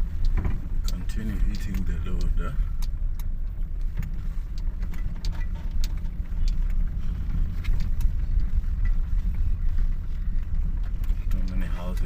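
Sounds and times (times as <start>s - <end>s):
car rumbling on dirt road: 0.0s - 12.0s
small clicks and knocks: 0.1s - 12.0s.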